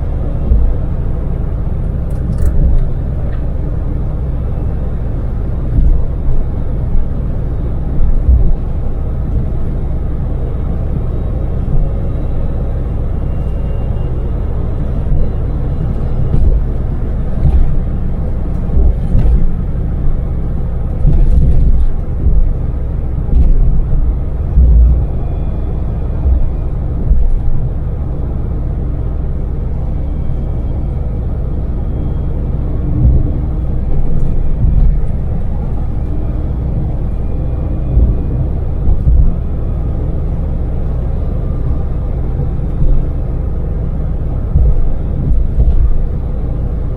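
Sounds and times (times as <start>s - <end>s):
minivan engine rumbling: 0.0s - 46.9s
road noise: 0.0s - 46.9s.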